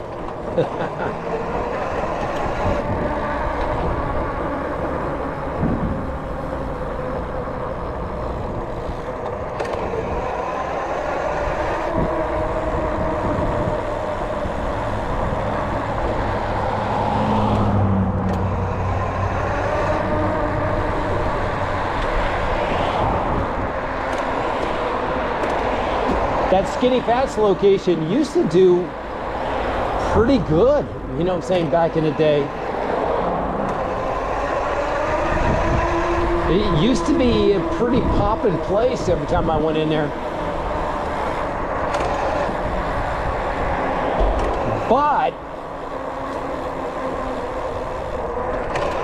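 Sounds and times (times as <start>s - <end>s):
road traffic: 0.0s - 49.0s
vehicle passing close: 0.0s - 49.0s.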